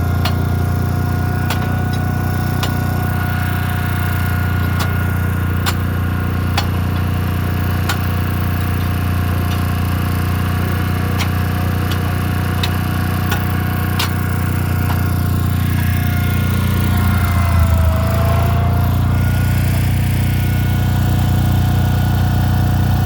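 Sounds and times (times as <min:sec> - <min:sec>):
machine droning with whine: 0:00.0 - 0:23.0.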